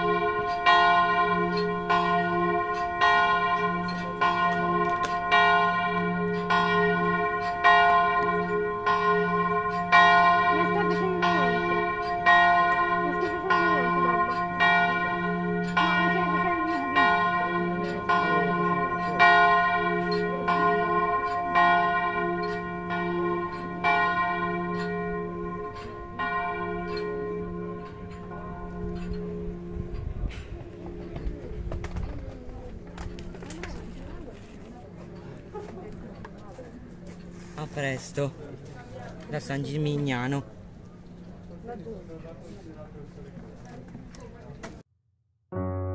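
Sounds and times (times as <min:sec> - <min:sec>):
church bell tolling: 0:00.0 - 0:42.2.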